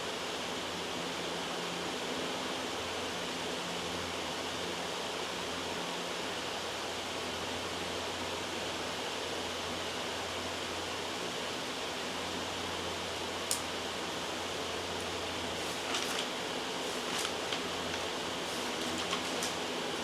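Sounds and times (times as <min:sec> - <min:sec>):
white noise hiss: 0:00.0 - 0:20.0.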